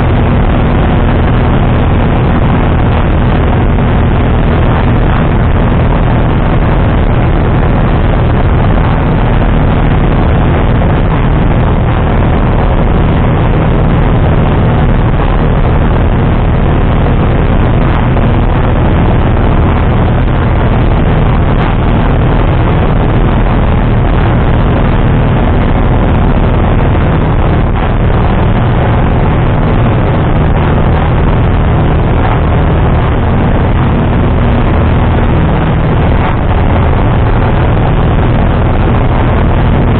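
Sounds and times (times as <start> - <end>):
propeller aircraft engine droning: 0.0 - 39.9.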